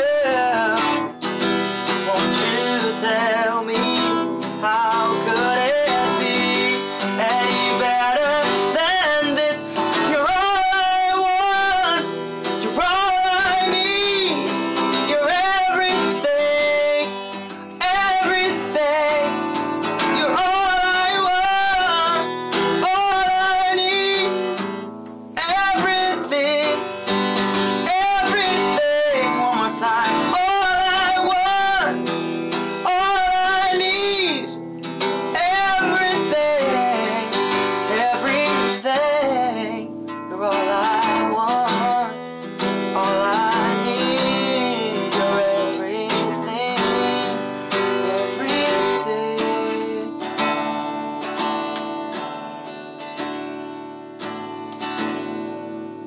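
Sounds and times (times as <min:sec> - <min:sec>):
person singing: 0:00.0 - 0:50.8
acoustic guitar strumming: 0:00.0 - 0:56.0.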